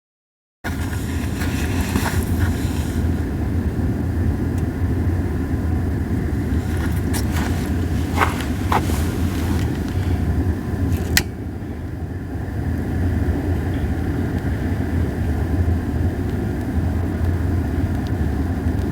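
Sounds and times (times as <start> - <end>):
fire burning with low rumble: 0.7 - 18.9.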